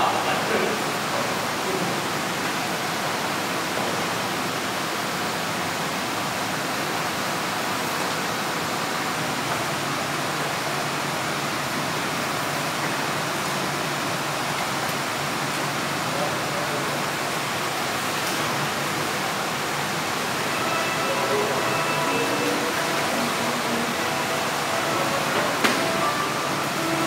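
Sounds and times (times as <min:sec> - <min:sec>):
factory machinery hissing: 0:00.0 - 0:27.0.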